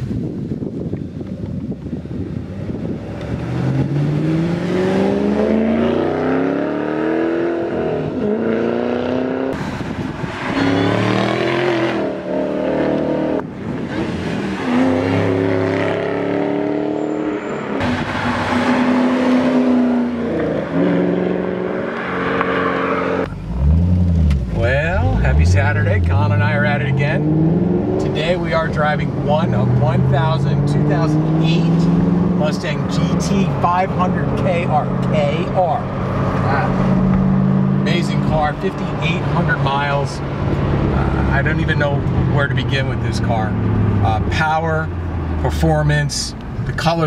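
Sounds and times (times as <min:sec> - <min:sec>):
car engine accelerating hard: 0:02.4 - 0:45.6.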